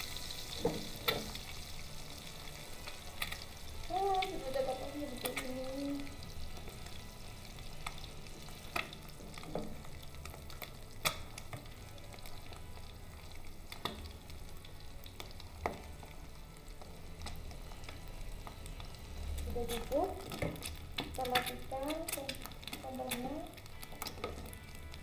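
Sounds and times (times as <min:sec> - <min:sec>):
egg sizzling in oil: 0:00.0 - 0:25.0.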